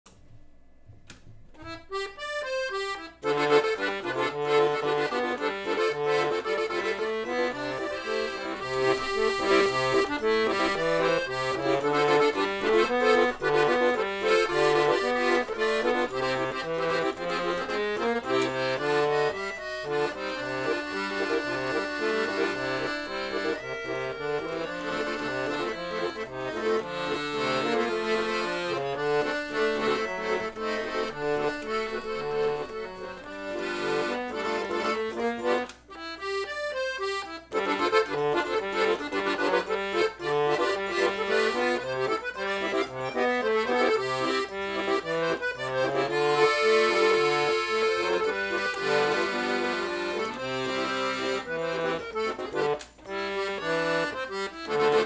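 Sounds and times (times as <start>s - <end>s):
accordion playing a tune: 1.1s - 55.0s.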